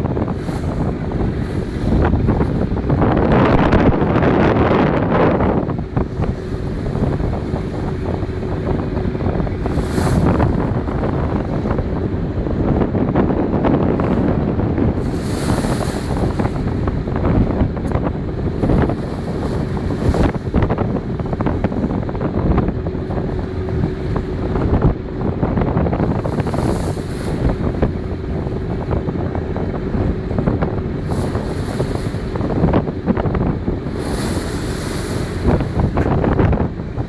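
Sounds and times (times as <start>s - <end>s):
waves washing: 0.0s - 37.0s
wind buffeting microphone: 0.0s - 37.0s.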